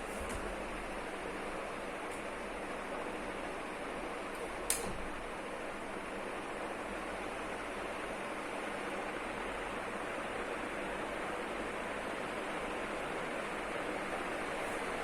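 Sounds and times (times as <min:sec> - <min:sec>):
ceiling fan rushing air: 0:00.0 - 0:15.0.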